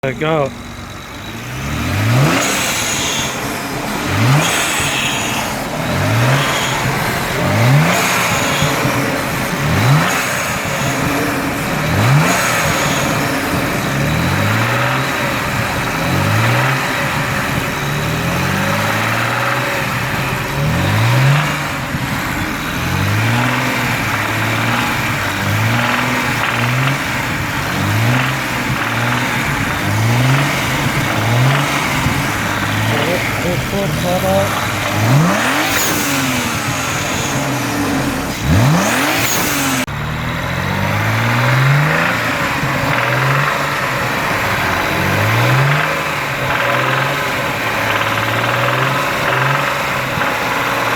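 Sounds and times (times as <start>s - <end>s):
engine revving in blips: 0.0s - 50.9s
engine knock: 0.2s - 50.9s.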